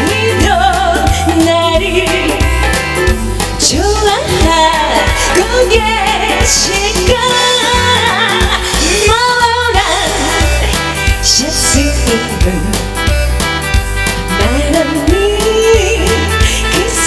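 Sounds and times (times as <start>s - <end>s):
pop song over loudspeakers: 0.0s - 17.0s.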